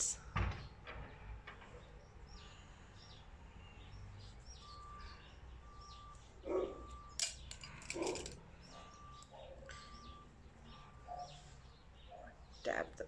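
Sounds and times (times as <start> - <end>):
birds chirping: 1.7 - 13.0.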